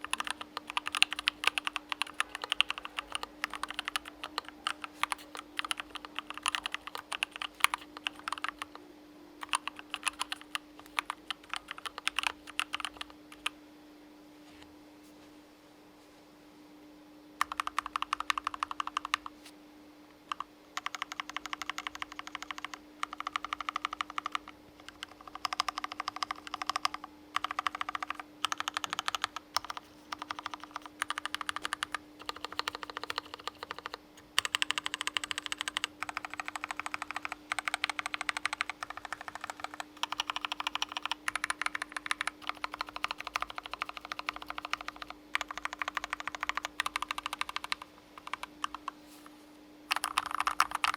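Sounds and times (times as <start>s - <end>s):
mechanical keyboard typing: 0.0s - 8.8s, 9.4s - 13.6s, 17.4s - 19.3s, 20.3s - 49.0s, 49.9s - 50.9s
faint steady hum: 0.0s - 50.9s.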